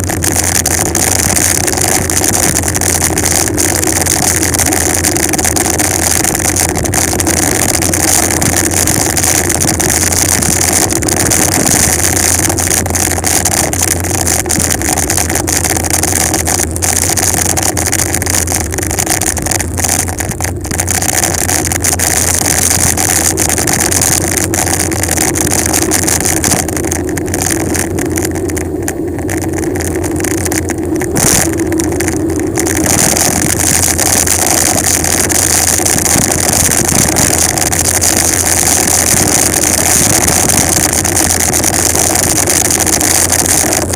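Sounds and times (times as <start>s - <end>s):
road noise: 0.0s - 43.9s
wind buffeting microphone: 0.0s - 43.9s.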